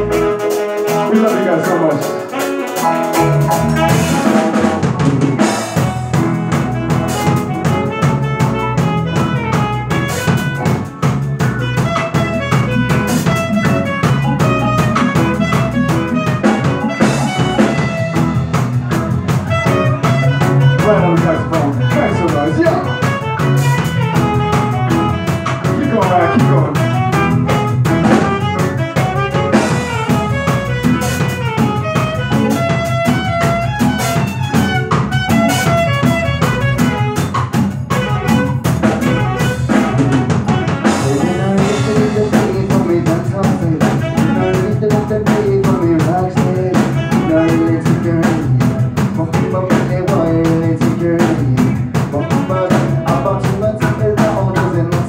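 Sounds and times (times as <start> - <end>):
busy drum beat: 0.0 - 55.0
live band playing: 0.0 - 55.0.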